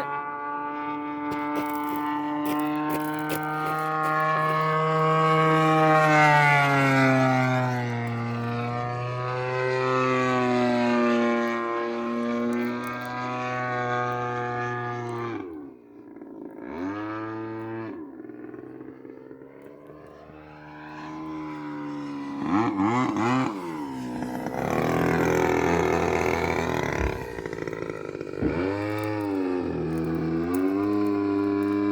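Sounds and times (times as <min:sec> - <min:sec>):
model airplane engine passing: 0:00.0 - 0:31.9.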